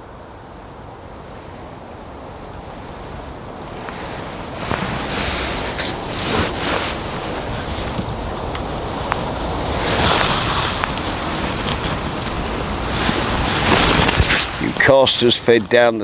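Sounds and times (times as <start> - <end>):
gusty wind through trees: 0.0 - 16.0
wind buffeting microphone: 0.0 - 16.0.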